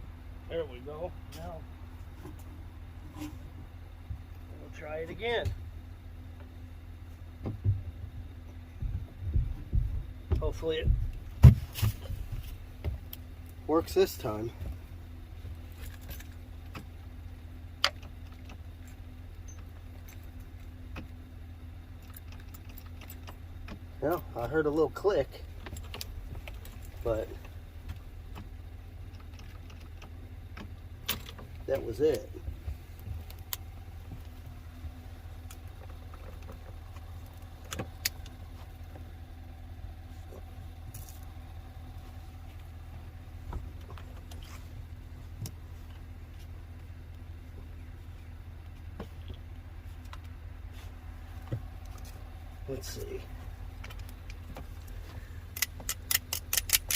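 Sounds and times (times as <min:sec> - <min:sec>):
low hum: 0:00.0 - 0:56.9
vehicle engine idling: 0:00.0 - 0:56.9.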